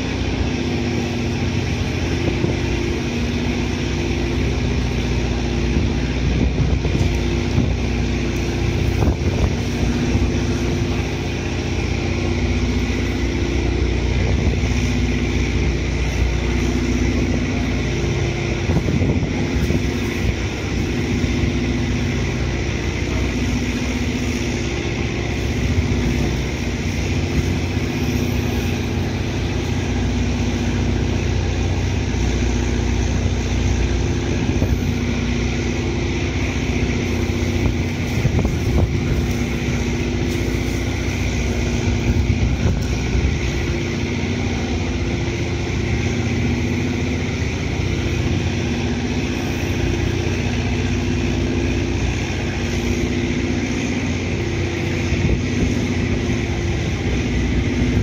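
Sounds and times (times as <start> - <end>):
ferry engines humming: 0.0 - 58.0
low rumble: 0.0 - 58.0.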